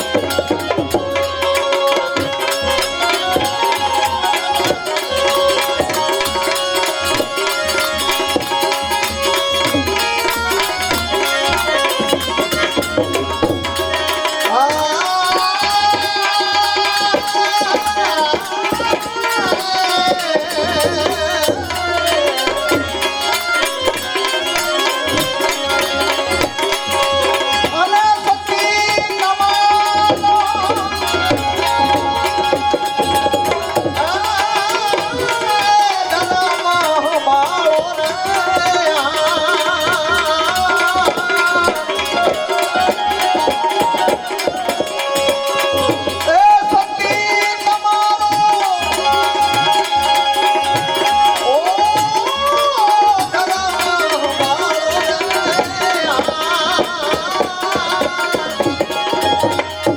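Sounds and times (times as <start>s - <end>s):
melodic instrumental line: 0.0s - 59.9s
tabla rhythm: 0.0s - 59.9s.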